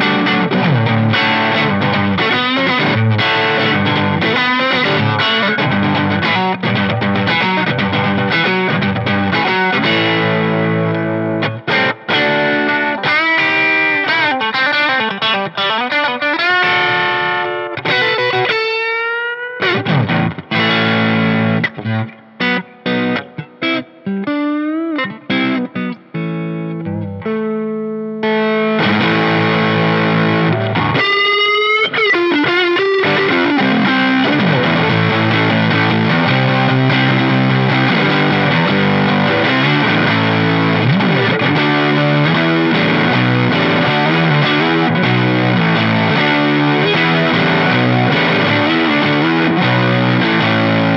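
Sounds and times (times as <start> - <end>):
overdriven electric guitar: 0.0 - 50.9.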